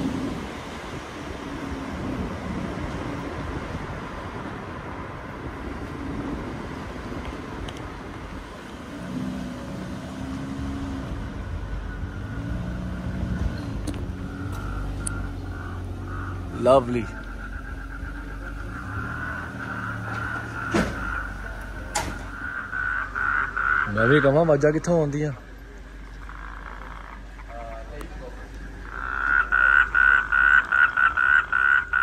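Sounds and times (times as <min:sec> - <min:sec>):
car engine and tyre hum: 0:00.0 - 0:32.0.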